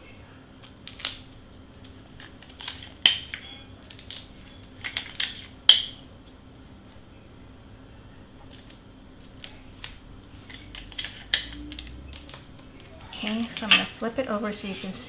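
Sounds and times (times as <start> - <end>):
tape and paper crackling: 0.6 - 6.4, 8.4 - 15.0.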